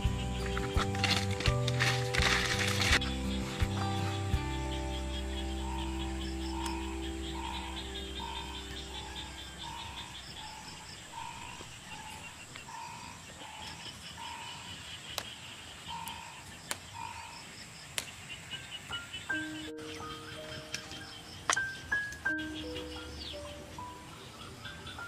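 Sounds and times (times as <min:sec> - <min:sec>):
frogs croaking: 0:00.0 - 0:25.0
high chirping calls: 0:00.0 - 0:25.0.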